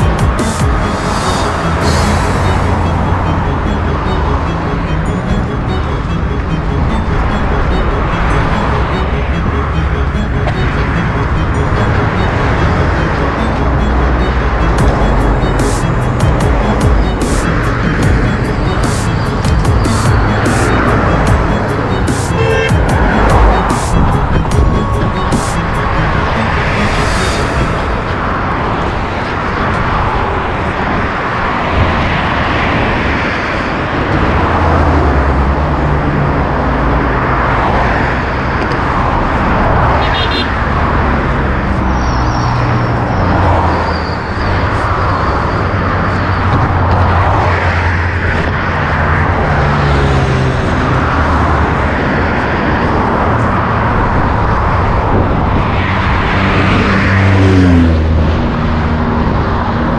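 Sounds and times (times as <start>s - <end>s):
engine humming: 0.0s - 59.9s
road and tyre noise: 0.0s - 59.9s.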